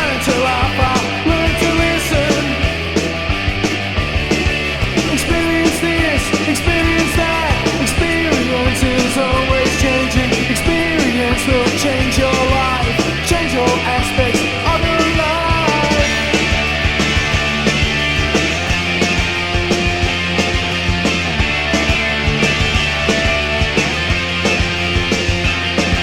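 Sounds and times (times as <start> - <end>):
drums steady beat: 0.0 - 26.0
electric guitar and bass: 0.0 - 26.0.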